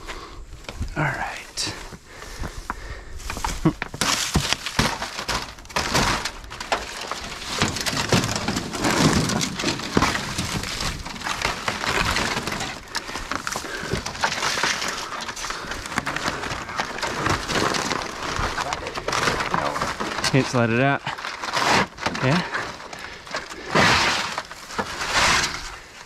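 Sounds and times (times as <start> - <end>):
sticks crackling and snapping: 2.4 - 25.8.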